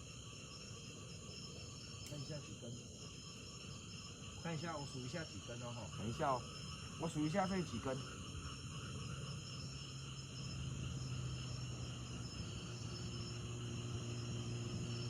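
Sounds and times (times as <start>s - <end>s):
high insect-like drone: 0.0s - 15.0s.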